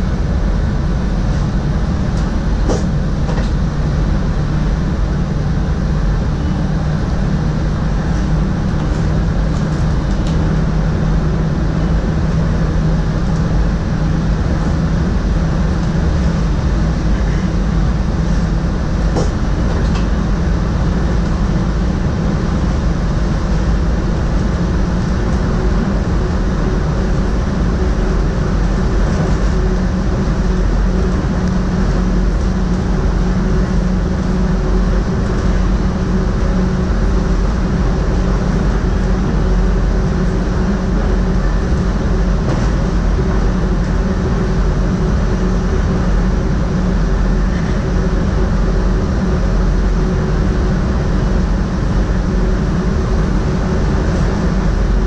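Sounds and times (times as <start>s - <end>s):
constant hum: 0.0s - 55.0s
train wheels rumbling on track: 0.0s - 55.0s.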